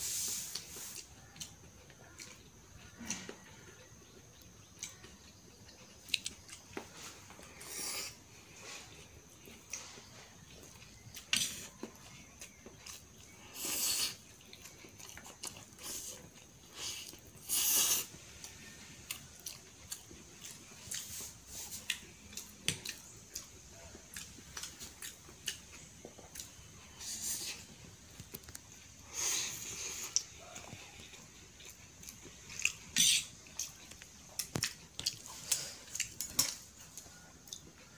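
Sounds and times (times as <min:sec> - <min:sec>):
wet chewing: 0:00.5 - 0:37.9.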